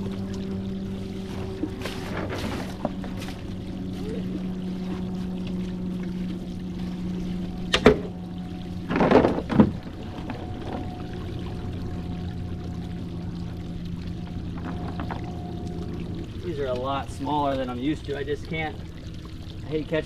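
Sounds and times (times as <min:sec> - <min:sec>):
motor hum: 0:00.0 - 0:20.0
water pouring into a tank: 0:00.0 - 0:20.0
water splashing: 0:00.0 - 0:20.0.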